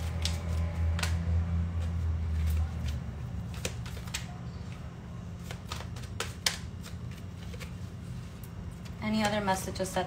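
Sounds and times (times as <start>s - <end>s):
cards being shuffled: 0.0s - 9.0s.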